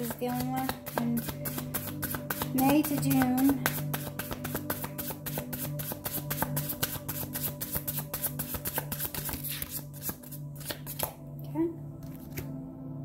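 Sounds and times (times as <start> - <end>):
cards being shuffled: 0.0 - 11.2, 12.0 - 12.6.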